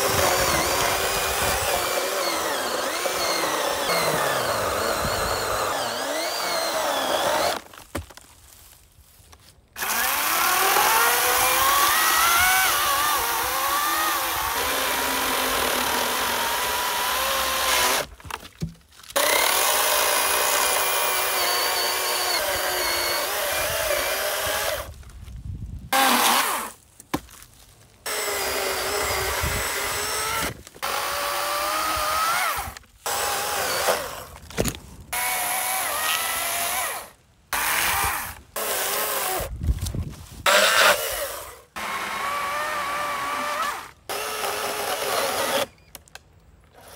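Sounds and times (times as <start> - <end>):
electric chainsaw cutting logs: 0.0 - 8.2, 9.8 - 18.5, 19.1 - 25.0, 25.9 - 26.8, 28.0 - 45.8, 46.7 - 46.9.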